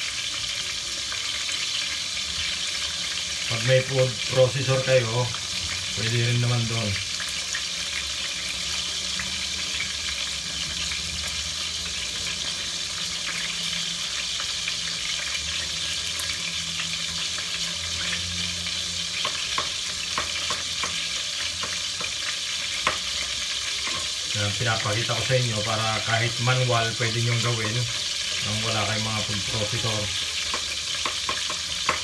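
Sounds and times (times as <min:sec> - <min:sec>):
meat sizzling in oil: 0:00.0 - 0:32.0.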